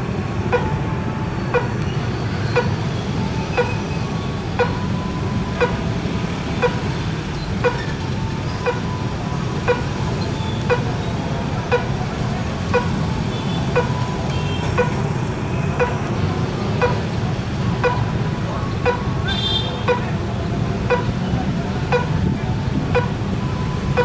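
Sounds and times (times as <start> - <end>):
motorcycles and traffic rumbling: 0.0 - 24.0.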